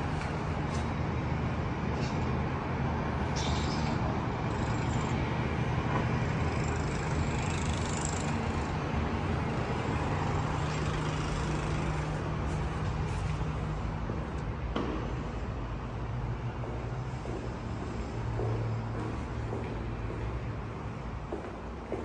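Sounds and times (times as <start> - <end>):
city traffic hum: 0.0 - 22.0.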